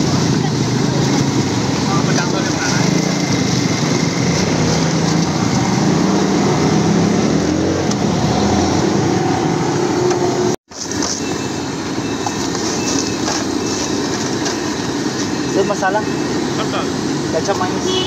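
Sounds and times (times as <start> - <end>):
busy street traffic: 0.0 - 18.0
engine hum: 0.0 - 18.0.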